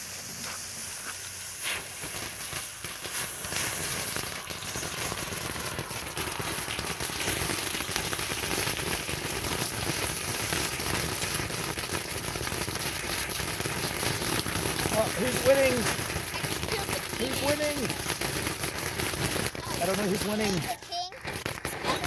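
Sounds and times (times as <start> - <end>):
fireworks crackling hiss: 0.0 - 22.0.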